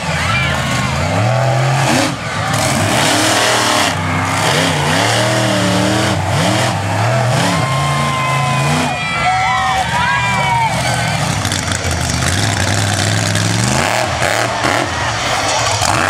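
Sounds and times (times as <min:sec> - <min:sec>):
monster truck engines revving: 0:00.0 - 0:16.0
steady rush of noise: 0:00.0 - 0:16.0.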